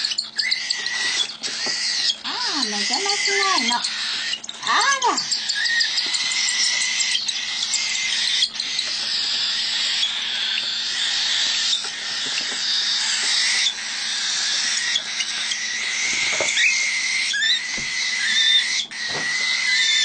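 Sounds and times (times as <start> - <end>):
cockatiels begging calls: 0.0 - 20.0.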